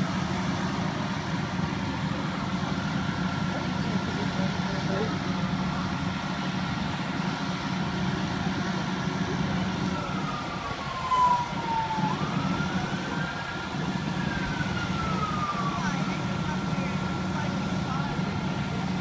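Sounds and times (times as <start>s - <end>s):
fire siren wailing: 0.0s - 19.0s
truck engine idling: 0.0s - 19.0s.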